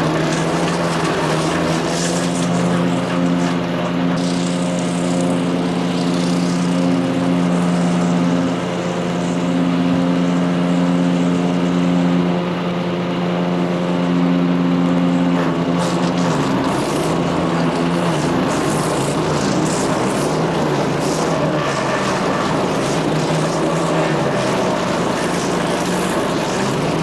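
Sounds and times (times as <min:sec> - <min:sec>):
wood chipper running: 0:00.0 - 0:27.0.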